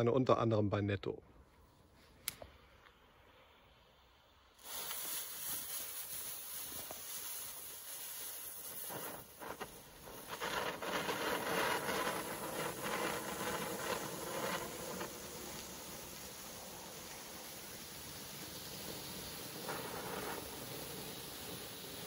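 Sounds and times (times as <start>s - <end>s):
firework crackling: 2.3s - 22.0s
firework fountain hissing: 3.1s - 22.0s.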